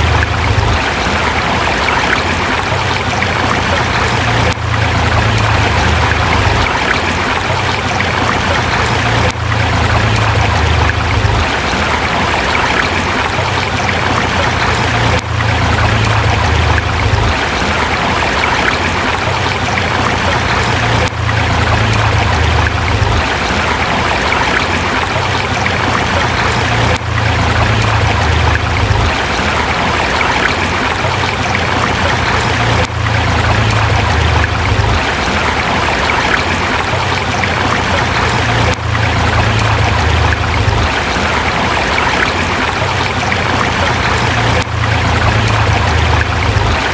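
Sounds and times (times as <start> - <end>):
river flowing over rocks: 0.0 - 46.9.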